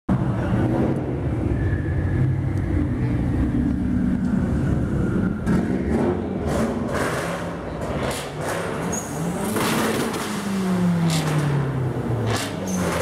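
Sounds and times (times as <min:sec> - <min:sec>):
car engine rumbling: 0:00.1 - 0:13.0.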